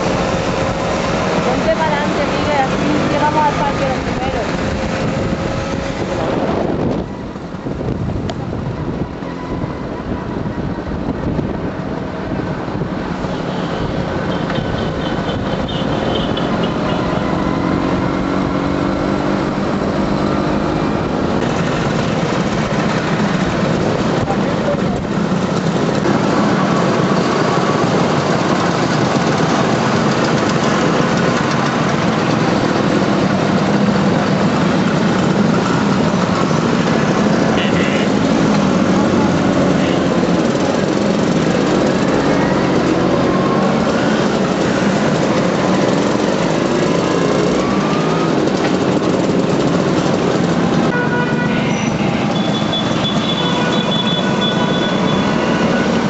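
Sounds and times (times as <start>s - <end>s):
motor scooter engines running: 0.0s - 56.0s.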